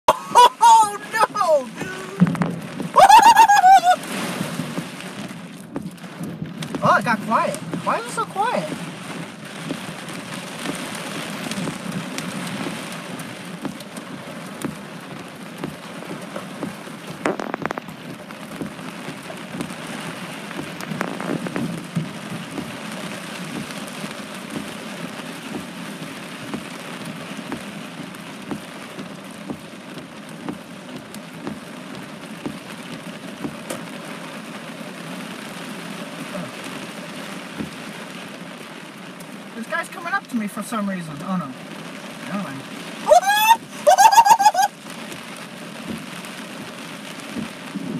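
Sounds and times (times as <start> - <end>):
rain on a hard surface: 0.1 - 47.9.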